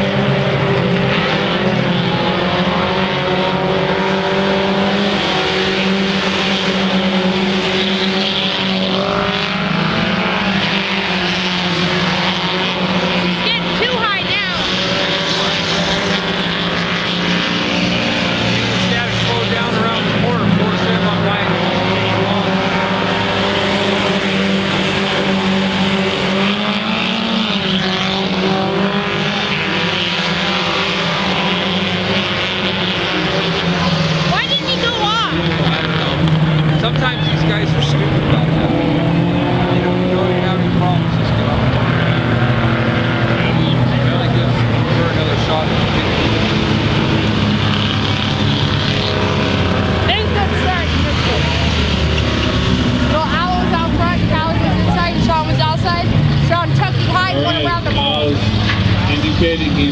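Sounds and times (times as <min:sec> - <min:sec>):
car accelerating past: 0:00.0 - 0:59.9
race car engines: 0:00.0 - 0:59.9.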